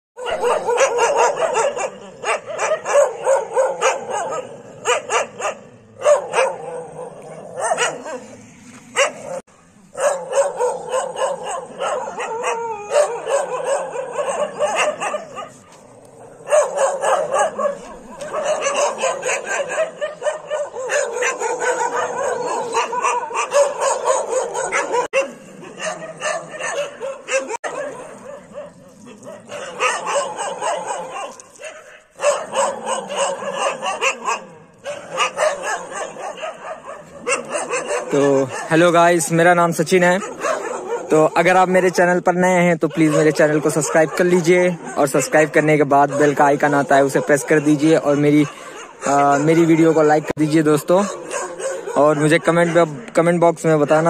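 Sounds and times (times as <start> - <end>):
dogs barking and yipping: 0.2 - 54.0.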